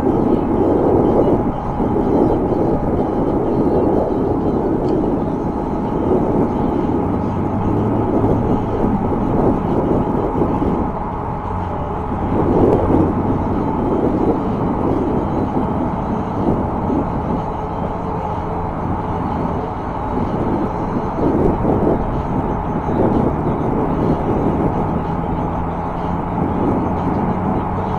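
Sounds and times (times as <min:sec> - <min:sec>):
tyres on asphalt: 0:00.0 - 0:27.9
wind on microphone: 0:00.0 - 0:27.9.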